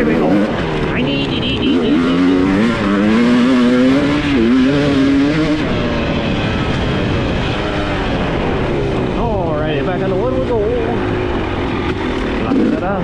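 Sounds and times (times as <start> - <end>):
dirt bike engine accelerating: 0.0 - 13.0.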